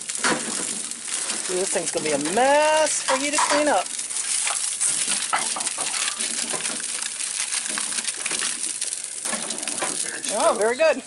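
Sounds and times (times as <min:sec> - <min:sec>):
aluminium foil crinkling: 0:00.0 - 0:10.9.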